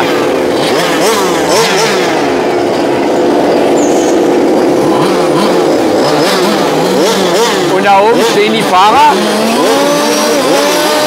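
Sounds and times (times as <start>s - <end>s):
model race car engines revving: 0.0s - 11.0s.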